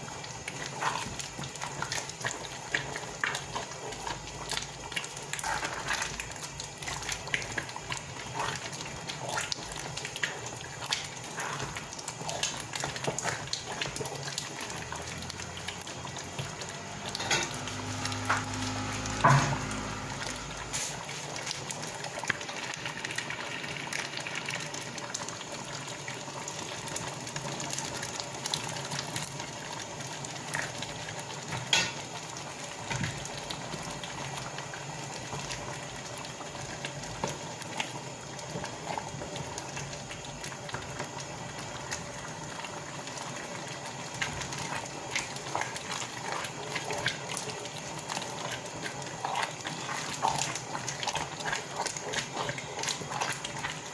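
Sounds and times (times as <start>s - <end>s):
pot bubbling on stove: 0.0s - 53.9s.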